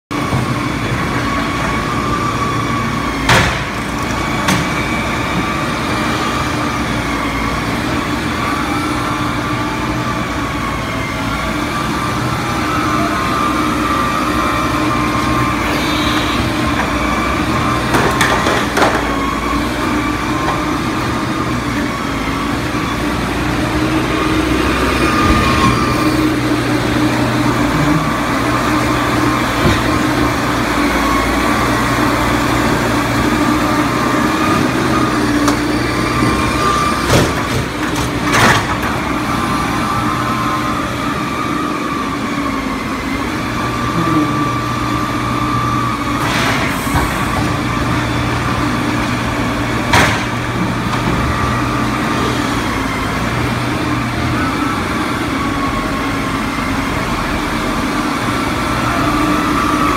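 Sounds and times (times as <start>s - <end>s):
forklift engine running: 0.1s - 59.9s.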